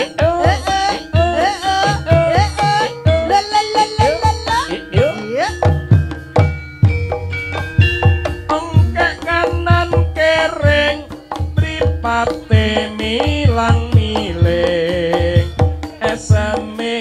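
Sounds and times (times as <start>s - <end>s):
gamelan melody: 0.0s - 17.0s
hand drums beating fast: 0.0s - 17.0s.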